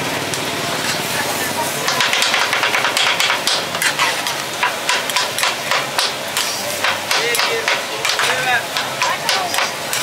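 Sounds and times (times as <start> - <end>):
metal spatulas clacking on griddle: 1.9 - 10.0.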